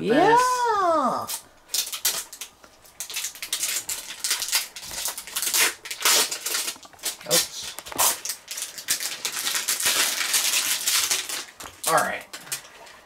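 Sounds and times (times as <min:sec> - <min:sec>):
plastic film crinkling: 0:01.3 - 0:13.0.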